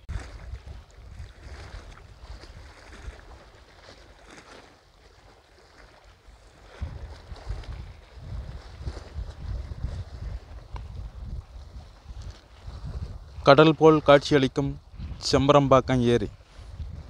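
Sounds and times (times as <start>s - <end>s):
waves lapping against concrete: 0.0s - 17.0s
wind buffeting microphone: 0.0s - 17.0s.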